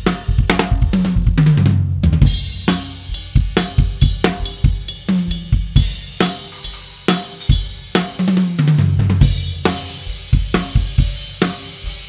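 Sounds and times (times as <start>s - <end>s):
drum beat with cymbals: 0.0s - 12.0s.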